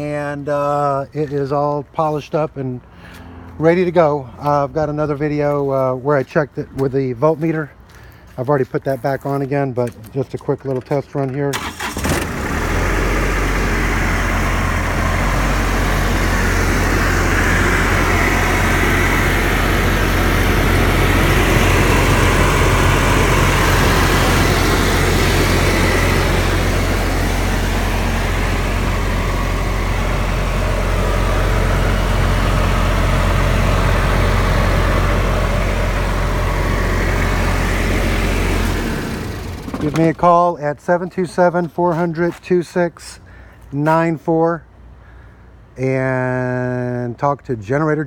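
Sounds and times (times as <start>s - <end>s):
diesel generator running: 0.0s - 48.0s.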